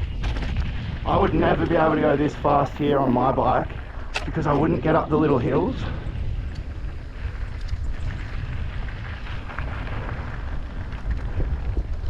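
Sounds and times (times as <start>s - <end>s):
mountain bike rolling and rattling: 0.0s - 12.0s
wind rumbling on microphone: 0.0s - 12.0s.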